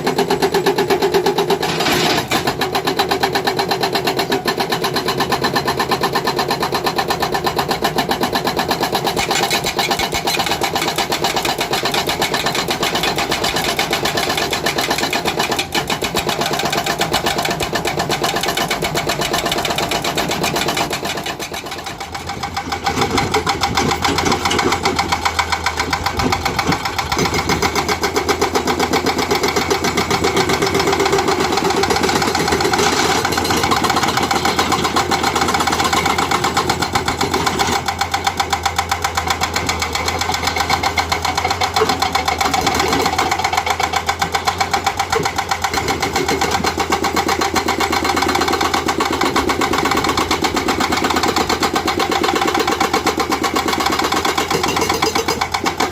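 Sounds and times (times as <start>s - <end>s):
diesel engine running: 0.0s - 55.9s
hydraulic breaker hammering rock: 0.0s - 55.9s.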